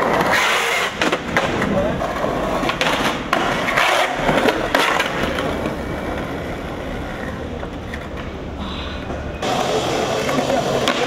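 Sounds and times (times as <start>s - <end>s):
skateboard trucks grinding on ledge: 0.0s - 8.2s, 9.4s - 11.0s
skateboard clacks: 0.0s - 8.4s, 9.1s - 11.0s
skateboard rolling: 0.0s - 11.0s.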